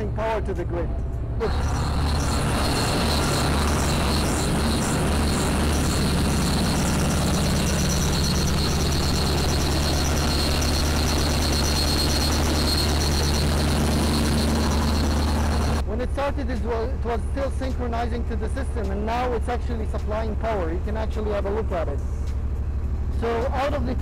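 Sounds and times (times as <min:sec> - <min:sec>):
diesel generator engine running: 0:00.0 - 0:24.0
steady high whine: 0:00.0 - 0:24.0.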